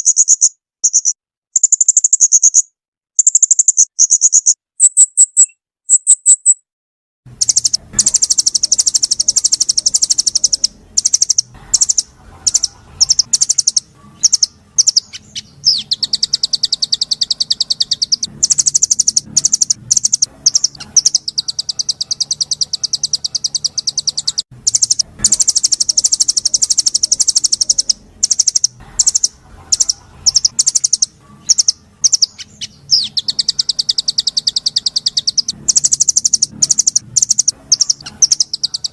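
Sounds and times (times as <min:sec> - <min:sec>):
songbird trilling: 0:00.0 - 0:06.6, 0:07.4 - 0:38.9.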